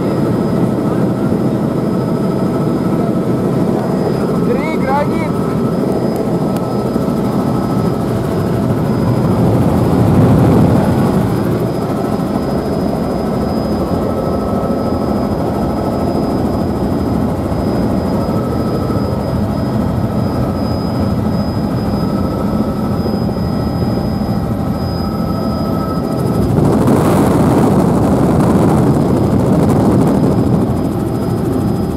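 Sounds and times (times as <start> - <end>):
helicopter engine and rotor drone: 0.0 - 31.9
thin high whines: 2.6 - 31.9.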